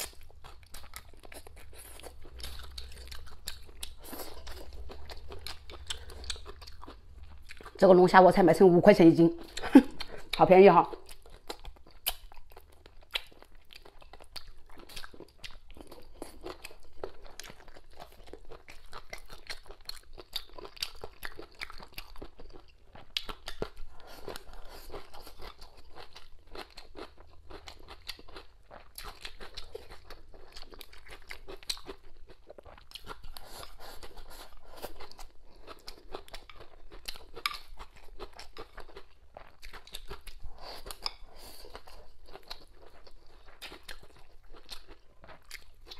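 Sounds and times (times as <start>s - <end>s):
woman chewing food crunchily: 0.0s - 8.3s, 9.3s - 45.9s.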